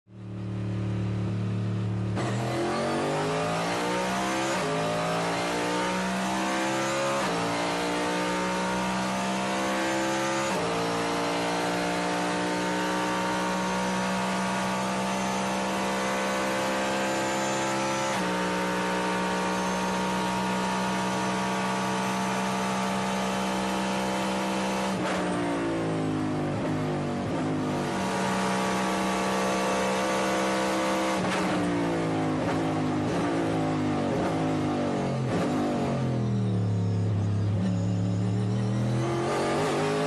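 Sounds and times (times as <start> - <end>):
race car engine revving: 2.1 - 40.0.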